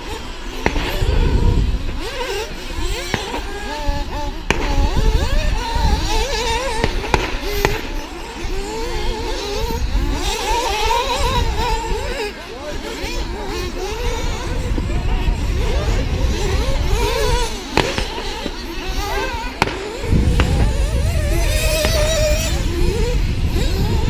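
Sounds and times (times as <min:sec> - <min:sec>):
model car motors whining: 0:00.0 - 0:24.0
wind rumble on microphone: 0:00.0 - 0:24.0.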